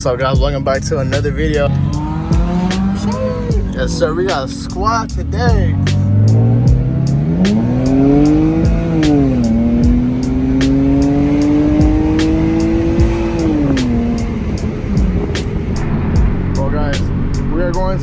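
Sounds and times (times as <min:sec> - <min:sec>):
music beat with ticks: 0:00.0 - 0:17.8
car engine accelerating: 0:00.0 - 0:18.0.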